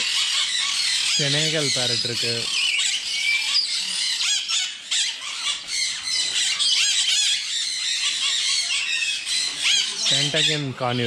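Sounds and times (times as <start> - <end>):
parrots squawking: 0.0 - 11.0.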